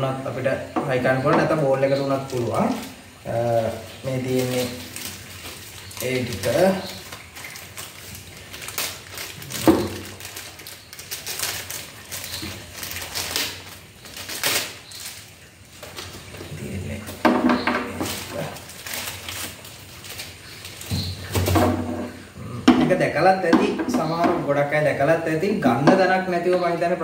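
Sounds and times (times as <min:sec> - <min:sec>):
plastic bagging crinkling: 0:00.9 - 0:27.0.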